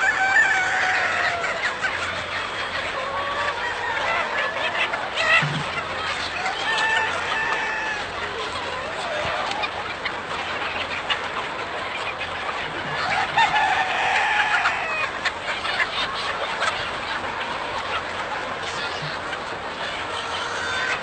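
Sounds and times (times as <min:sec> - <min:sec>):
loud long chicken call: 0:00.0 - 0:09.9, 0:12.7 - 0:21.0
chickens clucking: 0:00.0 - 0:21.0.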